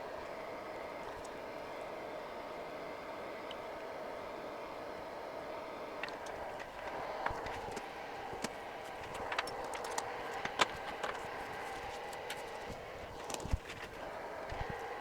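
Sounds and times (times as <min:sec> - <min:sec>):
bench equipment whir: 0:00.0 - 0:15.0.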